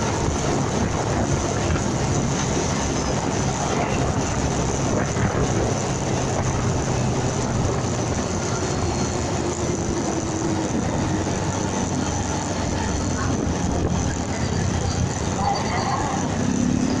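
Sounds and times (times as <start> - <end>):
wind and road rush: 0.0 - 17.0.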